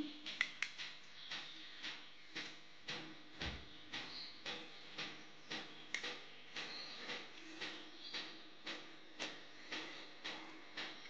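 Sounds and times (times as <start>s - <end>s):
faint regular ticking: 0.0s - 11.0s.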